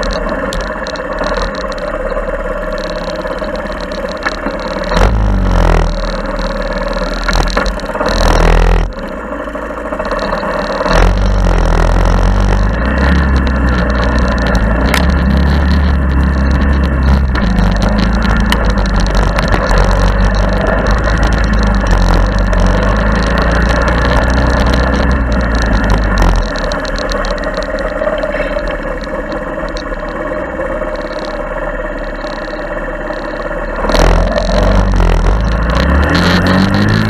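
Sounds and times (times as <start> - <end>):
small engine rumbling: 0.0 - 37.0.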